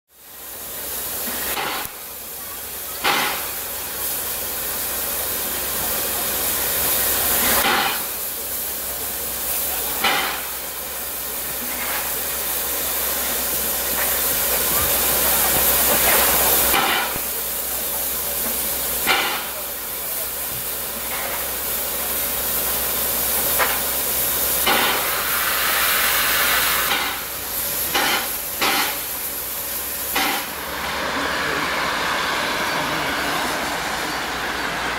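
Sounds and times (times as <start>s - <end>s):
steam locomotive hissing: 0.1s - 34.9s.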